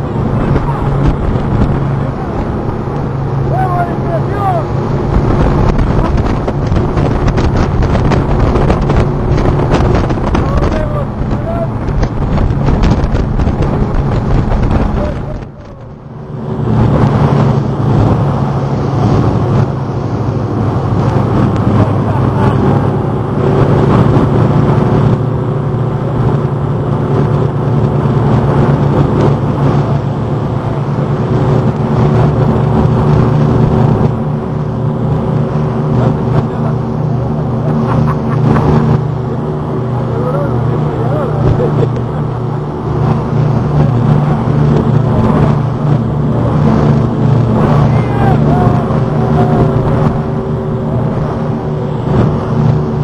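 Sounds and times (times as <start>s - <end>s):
boat engines droning: 0.0s - 53.0s.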